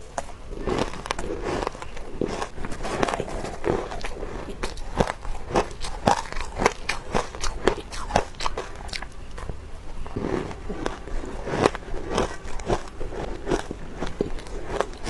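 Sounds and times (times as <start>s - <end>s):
person chewing shaved ice: 0.0s - 15.0s.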